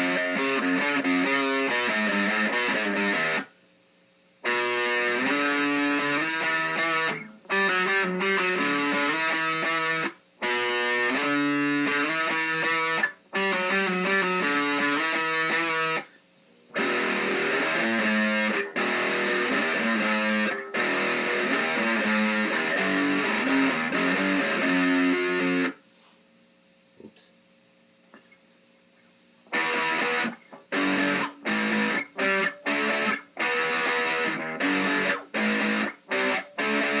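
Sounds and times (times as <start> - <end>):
distorted electric guitar riffs: 0.0 - 3.5, 4.4 - 25.8, 29.5 - 37.0.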